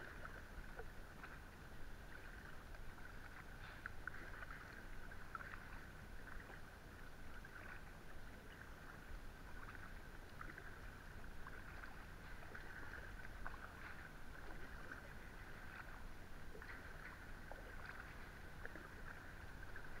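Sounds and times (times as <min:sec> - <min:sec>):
kayak paddle dipping and dripping: 0:00.0 - 0:20.0
small water splashes: 0:00.0 - 0:20.0.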